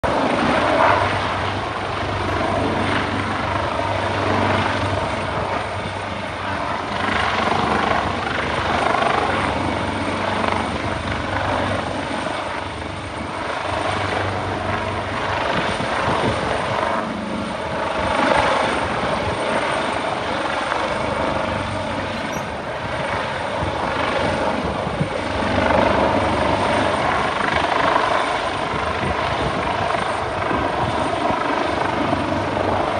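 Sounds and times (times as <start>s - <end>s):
helicopter rotor and engine: 0.0s - 32.9s.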